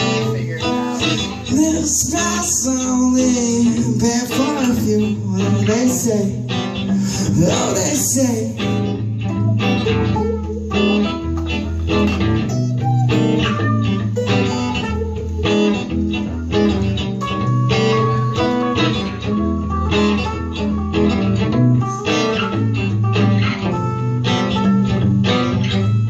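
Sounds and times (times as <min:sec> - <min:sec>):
bluesy guitar and bass music: 0:00.0 - 0:26.0.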